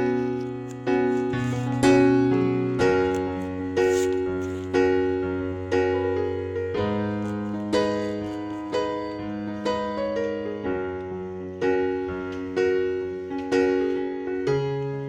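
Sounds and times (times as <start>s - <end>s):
slow piano notes and chords: 0.0s - 15.0s.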